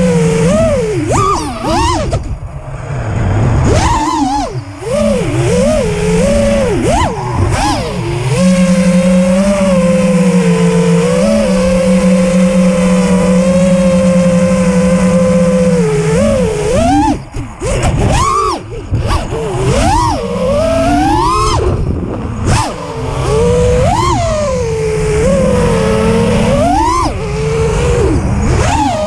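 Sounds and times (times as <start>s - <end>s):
quadcopter motors whining: 0.0s - 29.0s.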